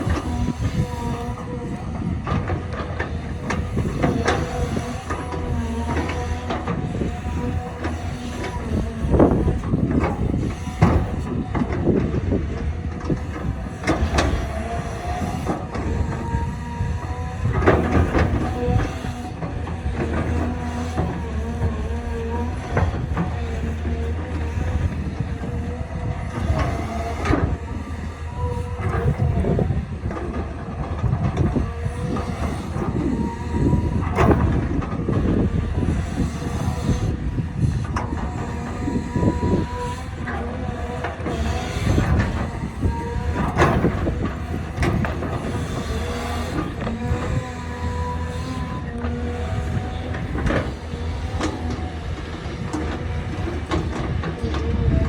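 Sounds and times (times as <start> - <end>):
diesel engine running: 0.0 - 55.0
hydraulic whine: 0.0 - 55.0.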